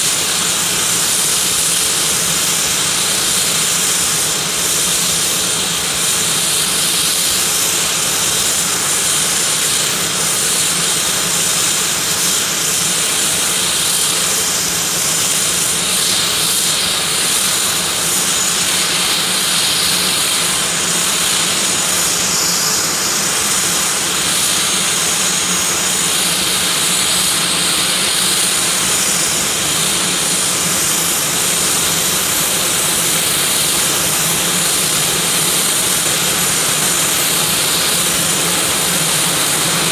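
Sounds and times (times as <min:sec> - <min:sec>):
high turbine whine: 0:00.0 - 0:39.9.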